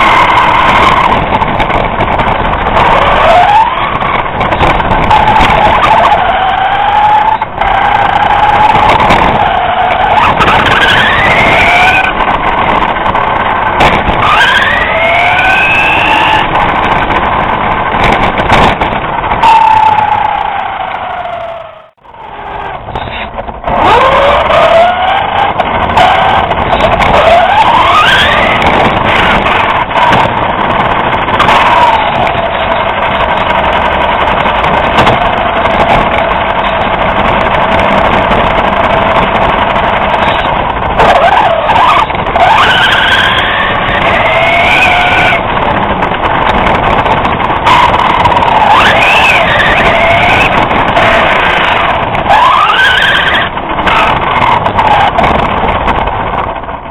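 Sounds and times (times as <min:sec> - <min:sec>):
wheels rolling: 0:00.0 - 0:56.9.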